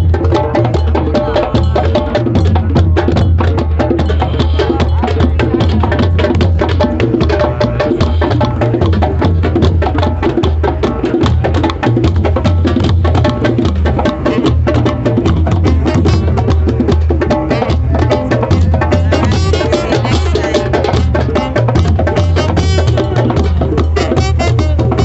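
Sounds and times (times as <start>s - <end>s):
hand drums playing: 0.0s - 25.0s.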